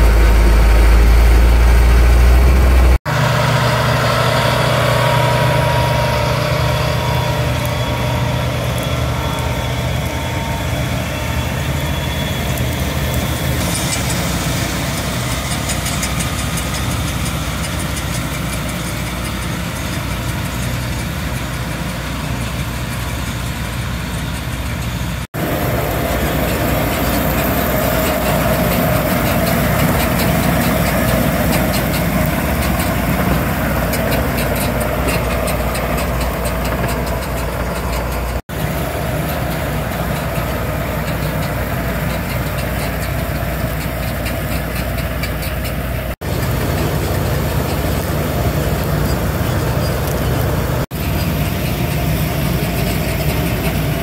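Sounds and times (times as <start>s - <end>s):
tractor engine and machinery running: 0.0s - 54.0s.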